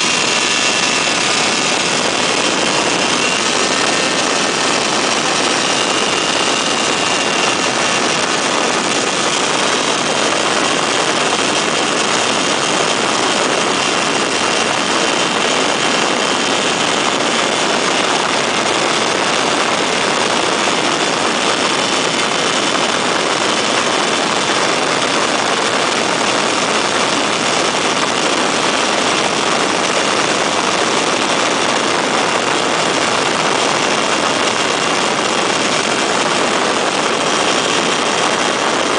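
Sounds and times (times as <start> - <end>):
light aircraft engine and propeller: 0.0 - 38.9.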